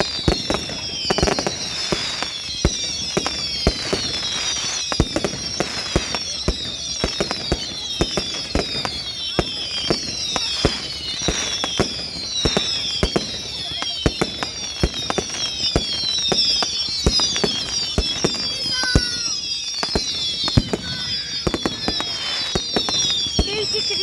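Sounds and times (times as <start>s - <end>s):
fireworks banging: 0.0s - 24.0s
whistling fireworks shells: 0.0s - 24.0s.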